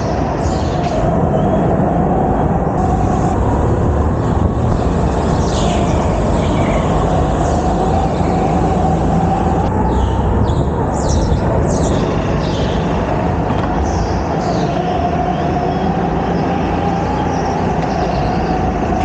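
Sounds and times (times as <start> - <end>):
go-kart motor droning: 0.0 - 19.0
heavy low rumble: 0.0 - 19.0.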